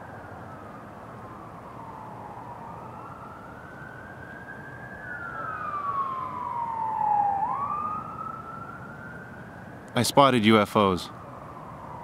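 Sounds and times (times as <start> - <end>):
police siren wailing: 0.0 - 9.9, 10.8 - 12.0.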